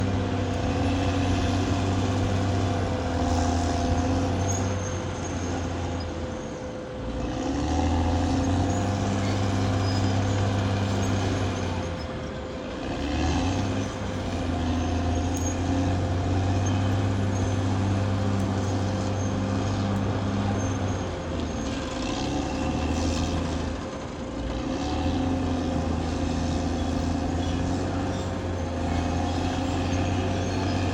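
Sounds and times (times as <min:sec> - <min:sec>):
bulldozer diesel engine: 0:00.0 - 0:30.9.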